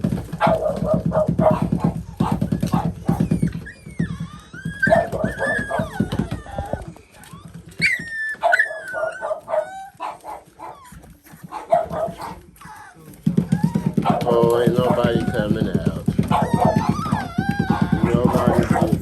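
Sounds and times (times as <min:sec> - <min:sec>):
puppies yipping and whining: 0:00.0 - 0:19.0.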